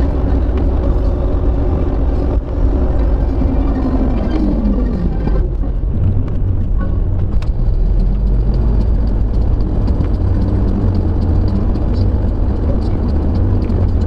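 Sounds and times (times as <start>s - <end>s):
car driving on wet road: 0.0s - 14.0s.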